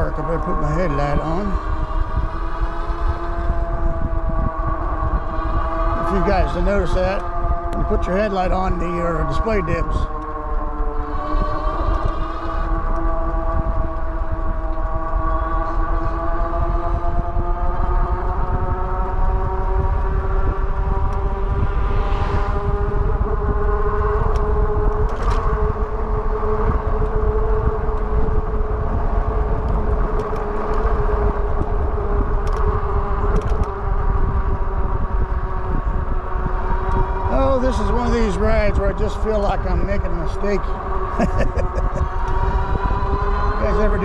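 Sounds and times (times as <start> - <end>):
wind and tyres rumbling: 0.0 - 44.0
electric motor whine: 0.1 - 44.0.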